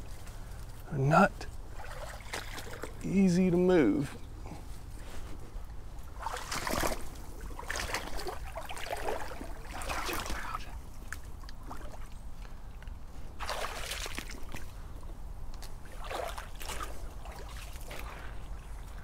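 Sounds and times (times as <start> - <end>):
wading footsteps splashing in water: 0.0 - 3.1, 3.8 - 19.0.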